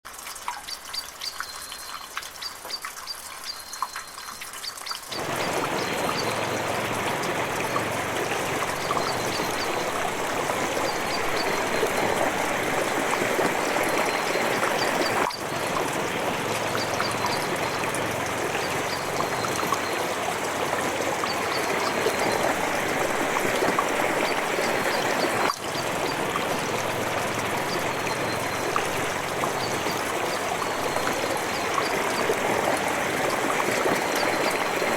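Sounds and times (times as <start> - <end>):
trickle of running water: 0.1 - 34.9
water dripping: 0.1 - 34.9.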